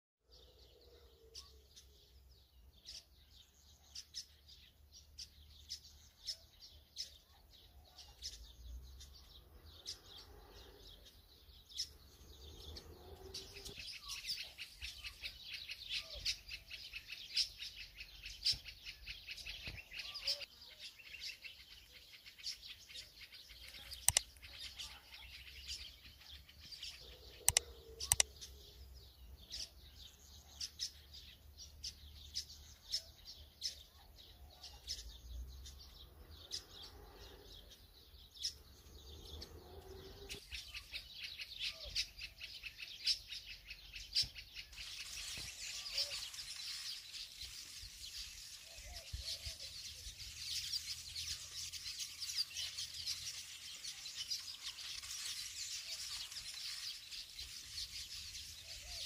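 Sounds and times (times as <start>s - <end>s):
small birds chirping: 0.2s - 59.0s.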